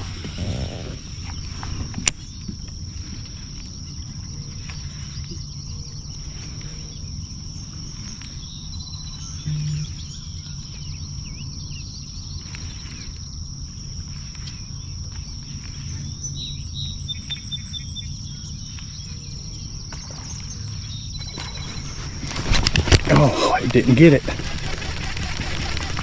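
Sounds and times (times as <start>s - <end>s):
low steady rumble: 0.0s - 22.3s
high-pitched insect drone: 0.0s - 26.0s.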